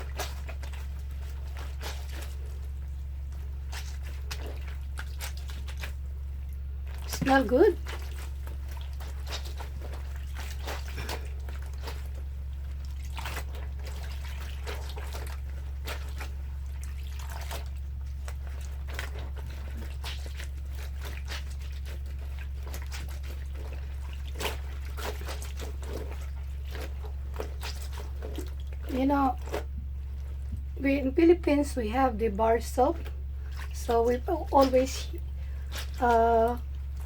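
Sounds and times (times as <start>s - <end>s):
clothes sloshing in water: 0.0s - 37.0s
steady low hum: 0.0s - 37.0s.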